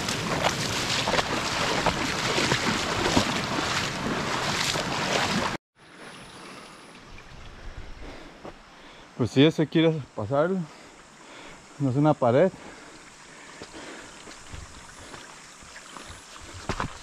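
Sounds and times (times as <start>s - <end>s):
stream water rushing and splashing: 0.0s - 7.8s, 10.8s - 17.0s.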